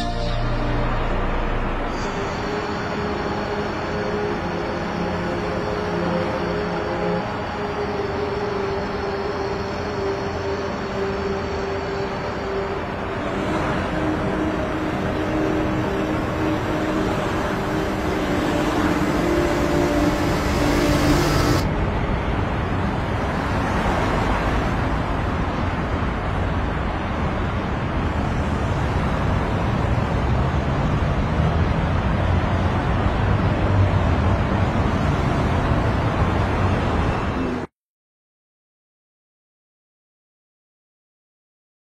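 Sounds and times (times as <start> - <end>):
car engine and road noise: 0.0 - 37.7
city traffic hum: 0.0 - 37.7.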